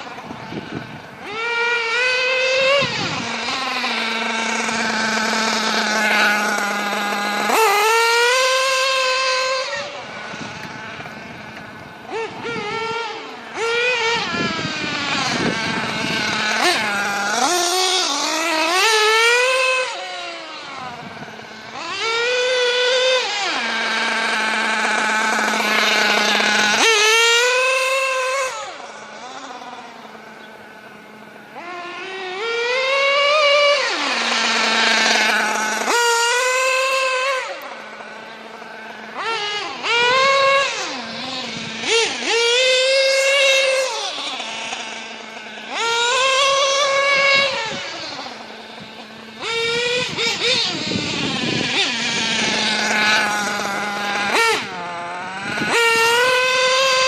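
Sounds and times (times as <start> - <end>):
nitro engine revving and idling: 0.0 - 57.0.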